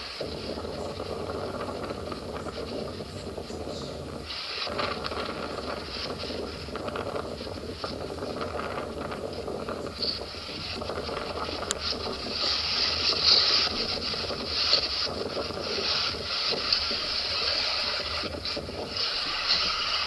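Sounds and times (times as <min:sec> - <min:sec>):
footsteps crunching in snow: 0:00.0 - 0:20.0
steady hiss: 0:00.0 - 0:20.0.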